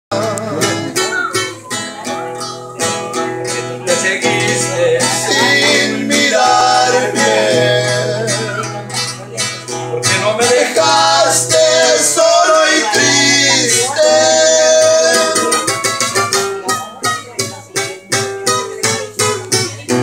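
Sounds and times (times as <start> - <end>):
acoustic guitar strumming: 0.1 - 20.0.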